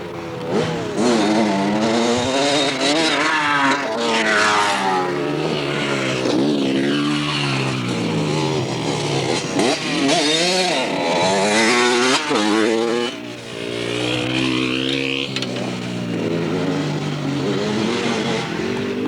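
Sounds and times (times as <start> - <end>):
dirt bike engine revving: 0.1 - 19.0.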